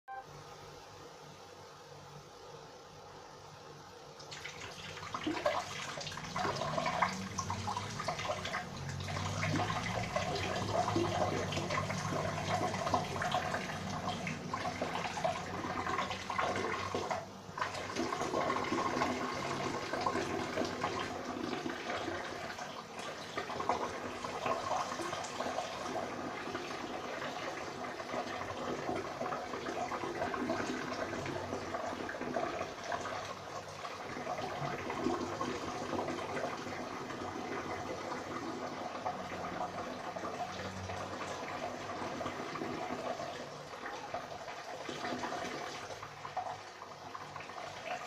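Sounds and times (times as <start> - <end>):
urine splashing into toilet water: 4.2 - 48.0.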